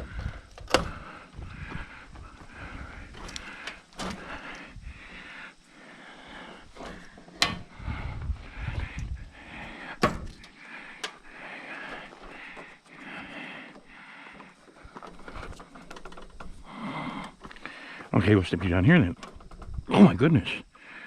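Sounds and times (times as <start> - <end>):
rustling and clattering of metal parts: 0.0 - 5.3, 6.3 - 13.0, 13.7 - 20.2.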